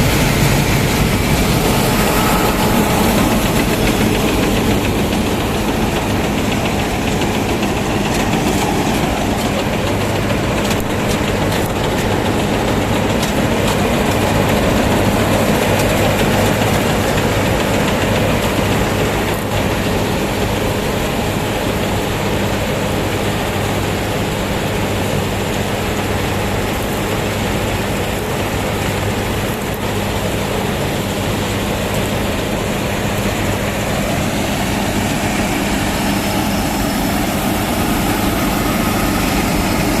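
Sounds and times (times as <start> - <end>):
combine harvester engine hum: 0.0 - 40.0
harvesting machine noise: 0.0 - 40.0.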